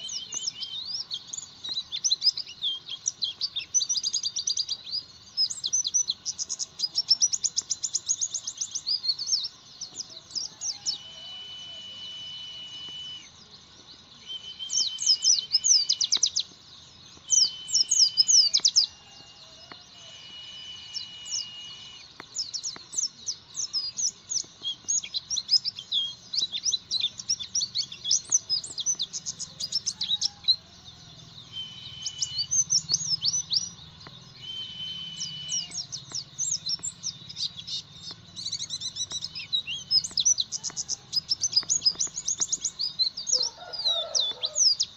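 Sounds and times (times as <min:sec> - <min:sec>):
bird chirping and twittering: 0:00.0 - 0:44.9.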